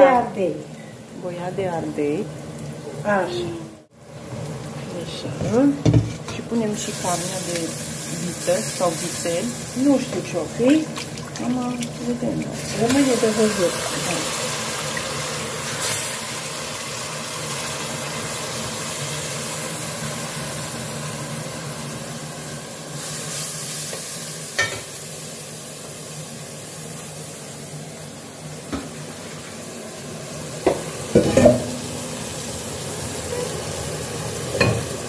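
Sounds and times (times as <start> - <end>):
beef sizzling in a pot: 0.0 - 35.0.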